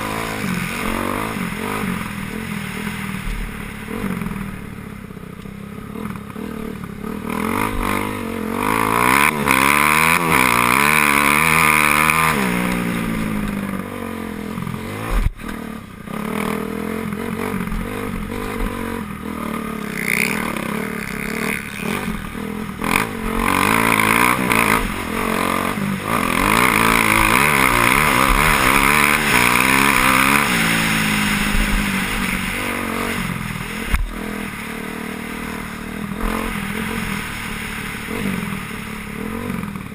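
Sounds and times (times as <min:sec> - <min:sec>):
motocross bikes revving past: 0:00.0 - 0:05.0, 0:05.9 - 0:39.9.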